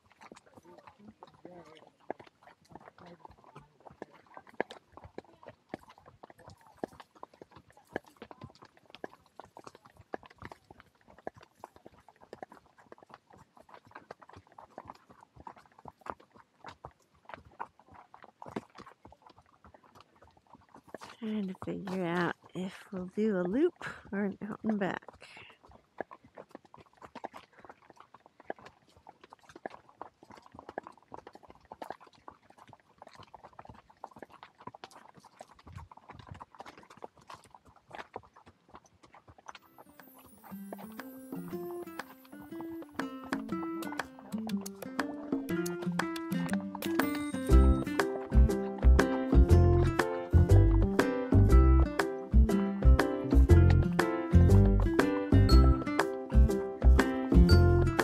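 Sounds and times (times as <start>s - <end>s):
horse hooves clip-clopping: 0.0s - 58.0s.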